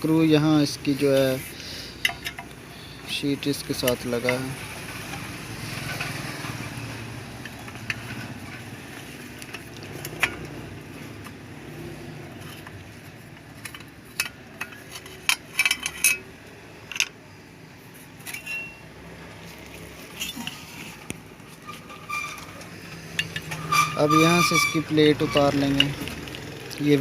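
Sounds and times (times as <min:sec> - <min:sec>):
small metal parts clinking: 0:02.0 - 0:11.4, 0:12.2 - 0:17.2, 0:18.2 - 0:18.9, 0:20.0 - 0:27.0.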